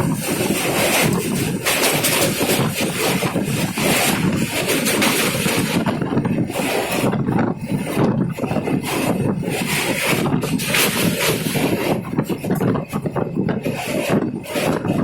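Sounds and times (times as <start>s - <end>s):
moving train rush and rumble: 0.0s - 15.0s
wind buffeting microphone: 0.0s - 15.0s.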